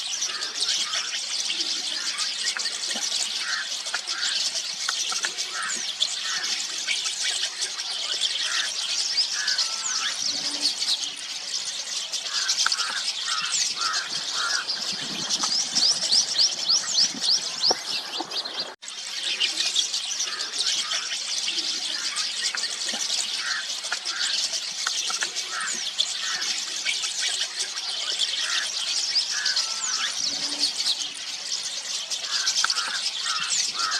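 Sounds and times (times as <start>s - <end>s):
flock of starlings chattering: 0.0s - 33.9s.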